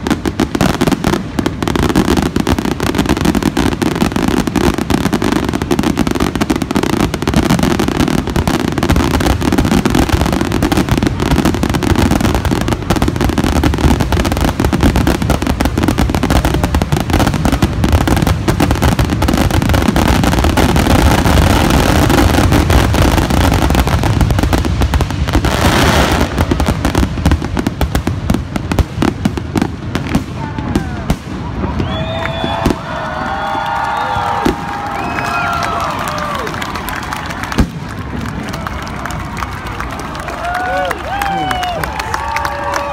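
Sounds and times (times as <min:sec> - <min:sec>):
crackling firework sparks: 0:00.0 - 0:42.9
fireworks bursting: 0:00.0 - 0:42.9.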